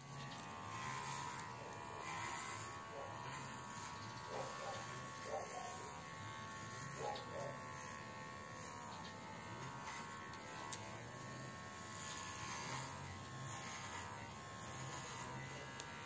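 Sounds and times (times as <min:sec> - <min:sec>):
hair trimmer buzzing: 0:00.0 - 0:16.0.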